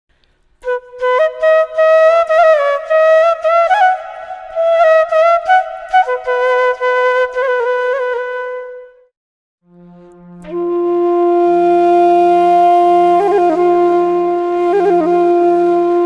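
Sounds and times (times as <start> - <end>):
solo wind instrument melody: 0.6 - 16.0.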